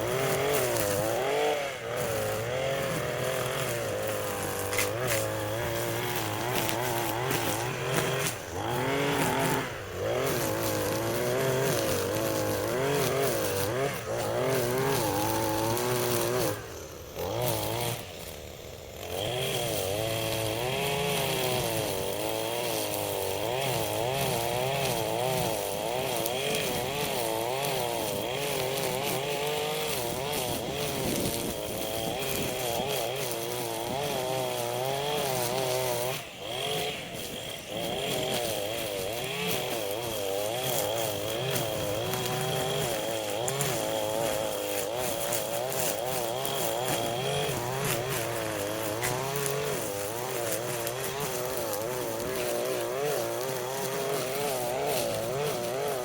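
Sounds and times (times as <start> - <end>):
two-stroke power tool engine: 0.0 - 56.0.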